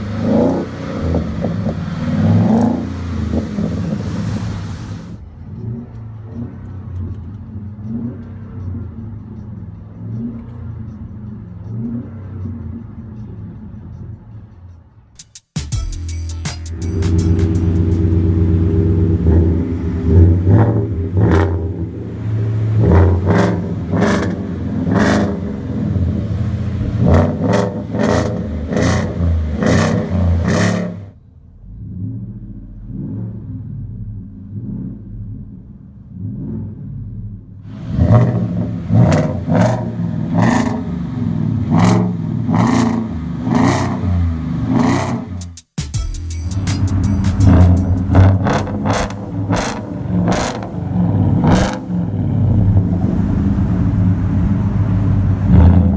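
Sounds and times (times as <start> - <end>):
truck engine revving through exhaust: 0.0 - 14.8, 16.6 - 45.7, 46.6 - 55.9.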